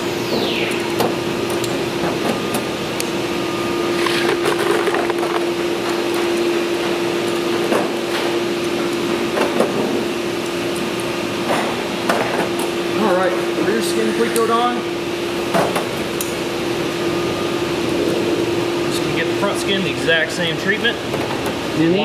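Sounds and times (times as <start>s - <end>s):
machines humming: 0.0s - 22.0s.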